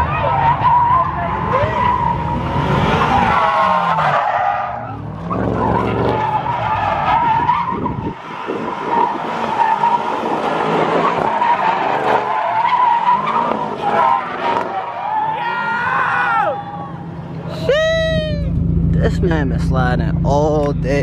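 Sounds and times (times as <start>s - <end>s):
car tires squealing: 0.0s - 18.5s
car engine: 0.0s - 21.0s.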